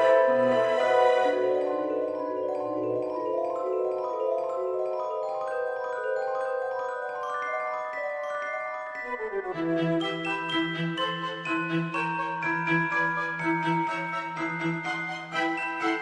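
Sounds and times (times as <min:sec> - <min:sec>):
bell-like instrumental tune: 0:00.0 - 0:16.0.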